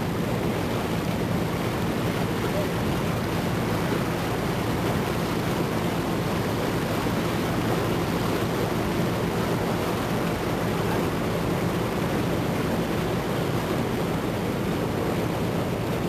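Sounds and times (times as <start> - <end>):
motor boat engine droning: 0.0 - 16.0.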